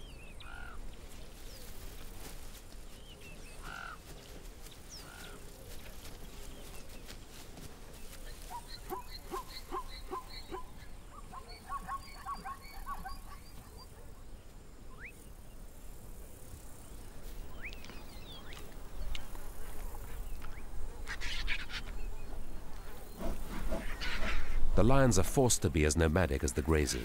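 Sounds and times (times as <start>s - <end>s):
birds calling: 0.0s - 27.0s.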